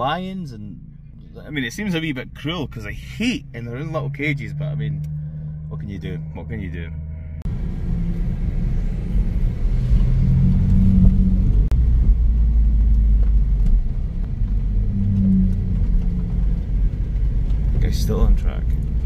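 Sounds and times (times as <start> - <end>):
car engines rumbling: 0.0 - 19.0.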